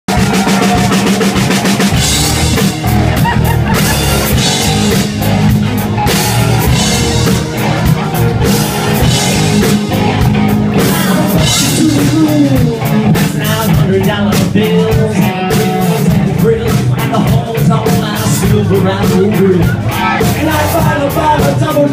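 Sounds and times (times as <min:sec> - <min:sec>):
drum kit beat: 0:00.1 - 0:21.9
electric bass guitar: 0:00.1 - 0:21.9
live rock band playing: 0:00.1 - 0:21.9.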